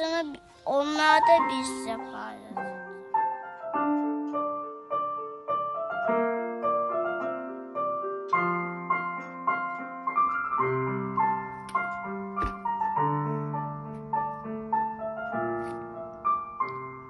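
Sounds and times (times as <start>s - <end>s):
slow solo piano melody: 0.0s - 17.0s.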